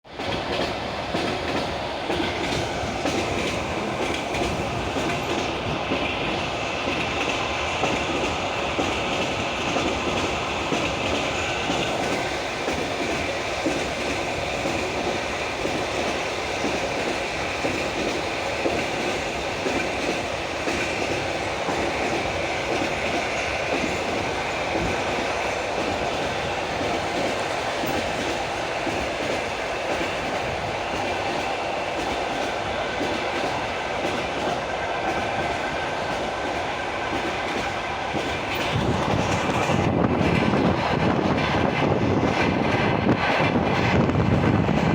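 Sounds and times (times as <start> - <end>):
train wheels clickety-clack: 0.1 - 44.9.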